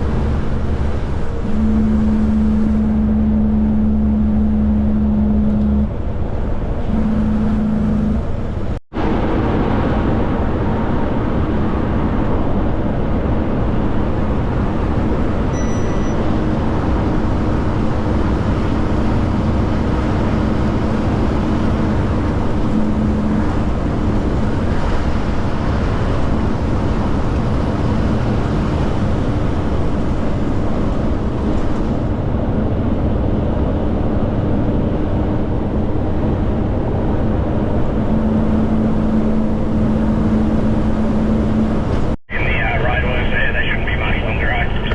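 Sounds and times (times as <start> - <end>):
diesel truck engine running: 0.0 - 44.9
road and wind noise: 0.0 - 44.9.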